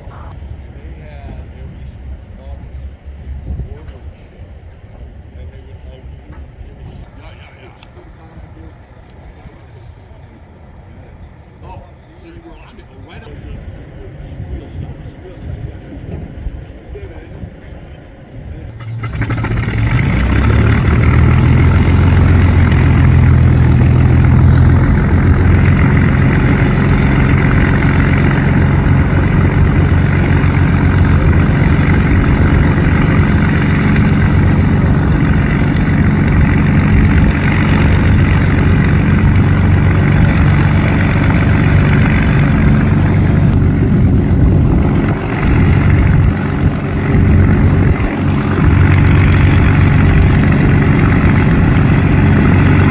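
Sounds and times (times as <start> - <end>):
propeller aircraft engine running: 0.0 - 52.9.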